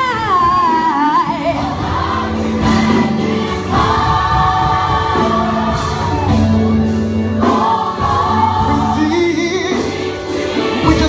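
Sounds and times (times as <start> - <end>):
band accompaniment: 0.0 - 11.0
gospel choir singing: 1.2 - 11.0.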